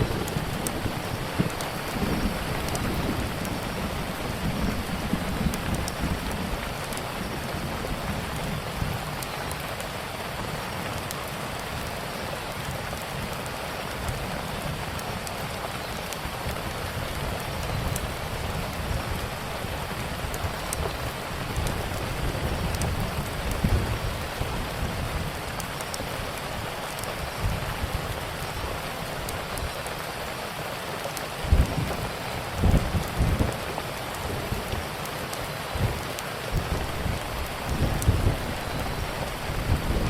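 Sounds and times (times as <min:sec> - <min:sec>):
steady rain falling: 0:00.0 - 0:40.0
wood fire crackling: 0:00.0 - 0:40.0.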